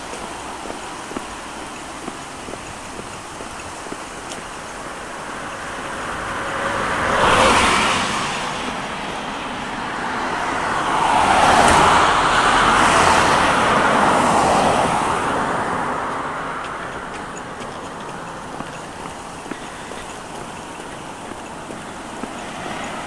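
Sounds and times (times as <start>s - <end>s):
cars passing on road: 0.0s - 23.0s.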